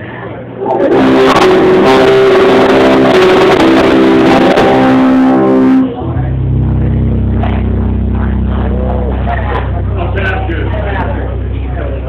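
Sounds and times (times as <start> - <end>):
low electrical hum: 0.0 - 12.0
live band with held guitar chords: 0.6 - 11.5.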